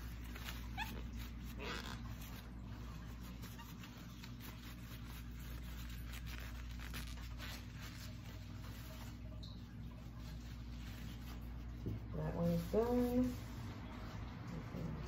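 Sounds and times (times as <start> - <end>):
paper towel rustling and rubbing: 0.0 - 15.0.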